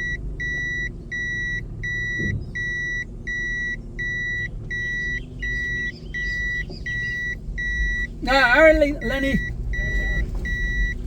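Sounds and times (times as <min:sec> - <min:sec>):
car engine running: 0:00.0 - 0:11.0
reverse warning beeper: 0:00.0 - 0:11.0.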